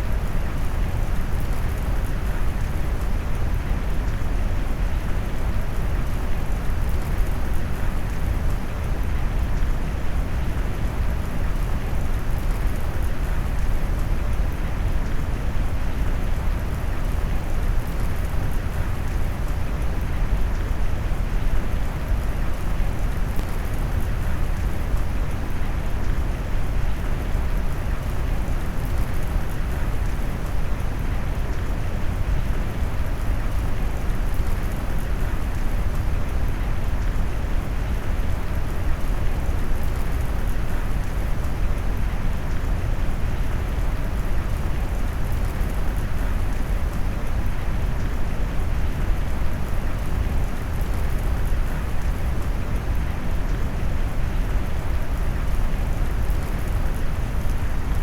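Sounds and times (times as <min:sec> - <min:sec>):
rain with deep hiss: 0:00.0 - 0:58.0.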